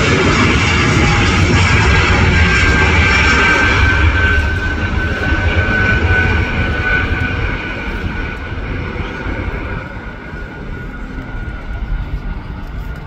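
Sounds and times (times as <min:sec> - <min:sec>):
jet engine roar with whine: 0:00.0 - 0:13.0.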